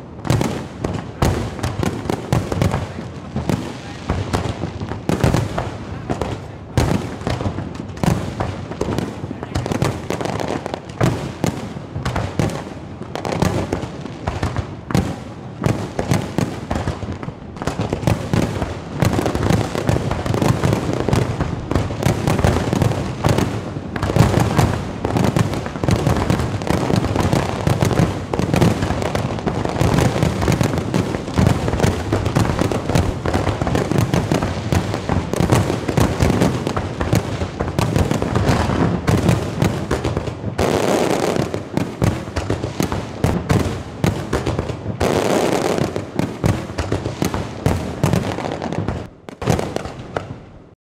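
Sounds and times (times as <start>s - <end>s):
fireworks exploding: 0.0s - 50.8s.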